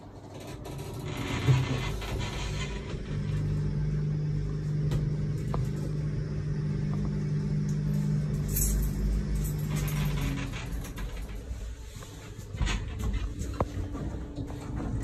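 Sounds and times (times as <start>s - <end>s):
elevator humming and rumbling: 0.0s - 15.0s.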